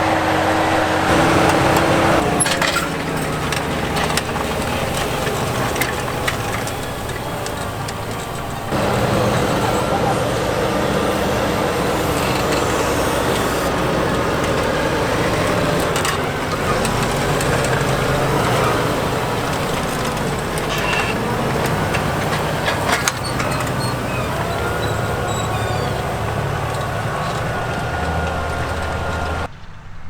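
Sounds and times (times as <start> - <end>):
tractor diesel engine under load: 0.0 - 29.7.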